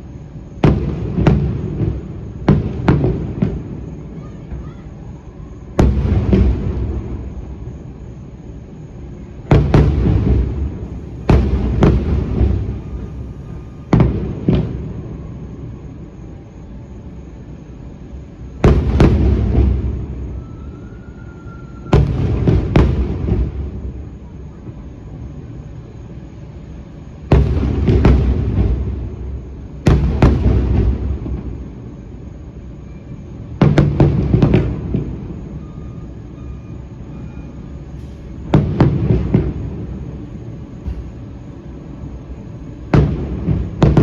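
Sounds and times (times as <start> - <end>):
fireworks booming: 0.0 - 44.0.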